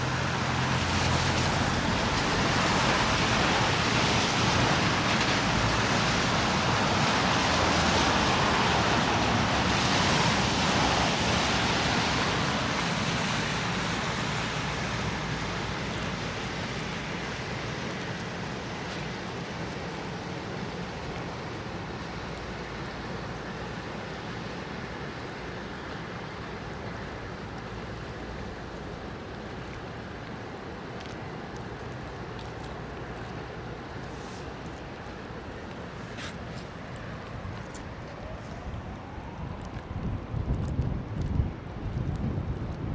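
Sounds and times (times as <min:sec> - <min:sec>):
tyres hissing on slushy road: 0:00.0 - 0:40.4.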